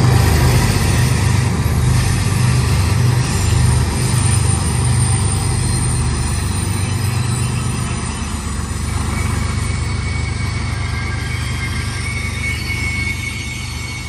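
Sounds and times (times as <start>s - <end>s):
diesel locomotives rumbling: 0.0s - 14.0s
freight cars rolling on rails: 0.0s - 14.0s
faint wheel squeal: 1.0s - 14.0s.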